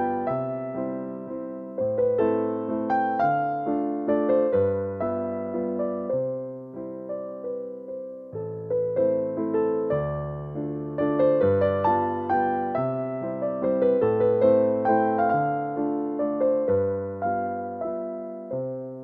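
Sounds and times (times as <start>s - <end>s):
solo piano waltz: 0.0s - 19.0s.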